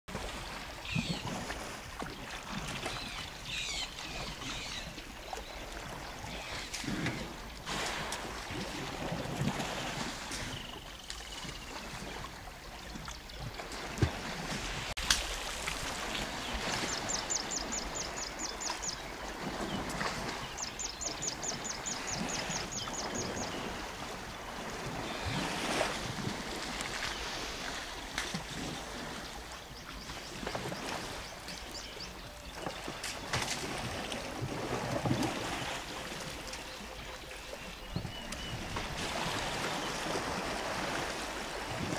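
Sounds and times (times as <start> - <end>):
elephants splashing in water: 0.1 - 41.9.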